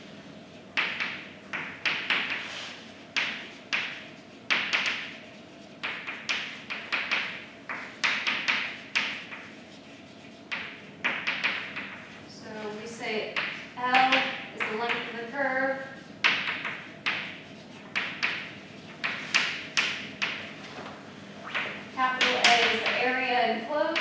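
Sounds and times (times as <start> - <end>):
chalk tapping and scratching: 0.7 - 21.0, 21.6 - 23.3.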